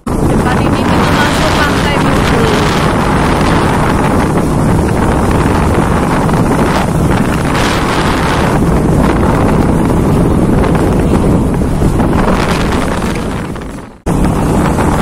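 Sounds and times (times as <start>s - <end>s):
motorcycle rumble: 0.0s - 15.0s
wind buffeting microphone: 0.0s - 15.0s.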